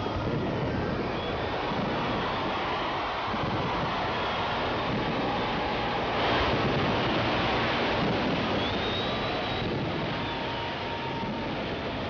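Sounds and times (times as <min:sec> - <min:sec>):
firework whistle rising: 0:00.0 - 0:12.0
fireworks bangs and crackles: 0:00.0 - 0:12.0.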